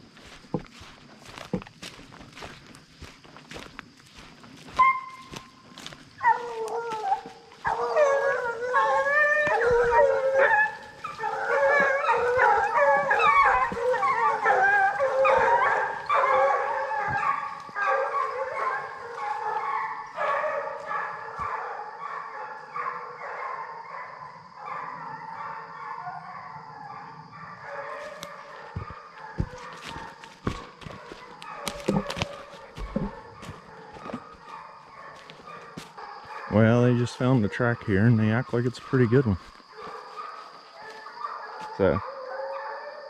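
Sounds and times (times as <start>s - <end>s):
hounds baying and howling: 0.0s - 43.0s.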